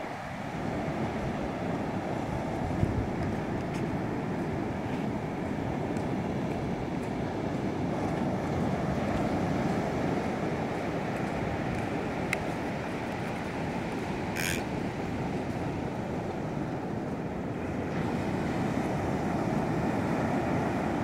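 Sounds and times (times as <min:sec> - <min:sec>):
ocean waves breaking on beach: 0:00.0 - 0:21.0.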